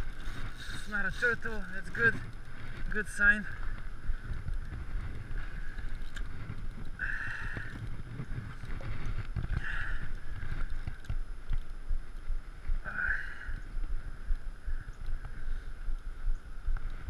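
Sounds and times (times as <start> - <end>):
steady high whine: 0.0 - 17.0
wind rumbling on microphone: 0.0 - 17.0.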